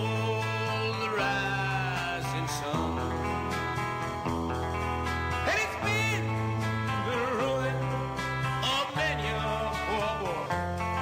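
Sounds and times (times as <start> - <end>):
country music with guitar and bass: 0.0 - 11.0.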